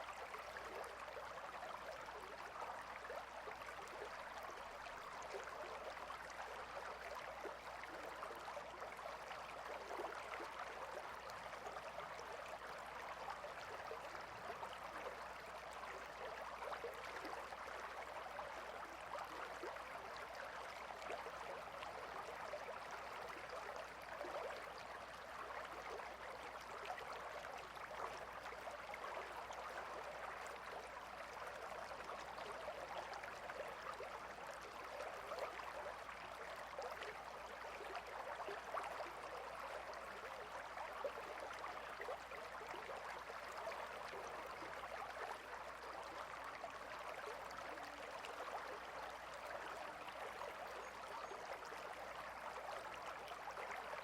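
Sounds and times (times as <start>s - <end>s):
river water babbling: 0.0s - 54.0s.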